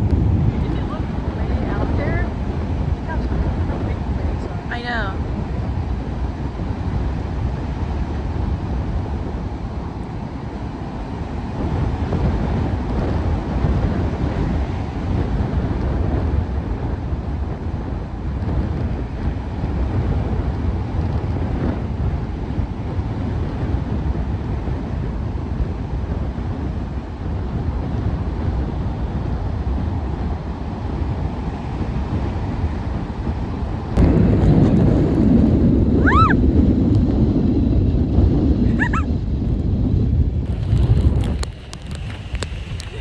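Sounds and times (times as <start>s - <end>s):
surf breaking on beach: 0.0s - 43.0s
wind buffeting microphone: 0.0s - 43.0s.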